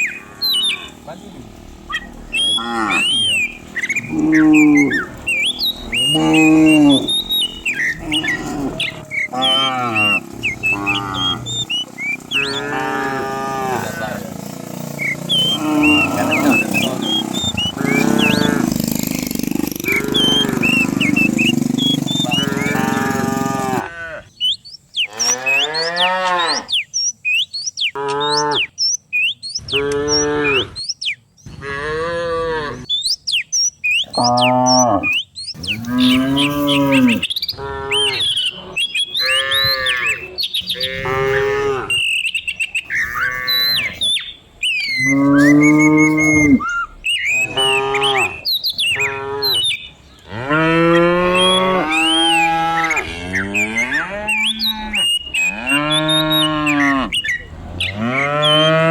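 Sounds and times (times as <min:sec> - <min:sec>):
cattle mooing: 0:00.0 - 0:24.3, 0:25.1 - 0:26.8, 0:27.9 - 0:28.7, 0:29.6 - 0:30.8, 0:31.5 - 0:32.9, 0:34.1 - 0:42.1, 0:42.8 - 0:44.1, 0:44.8 - 0:58.9.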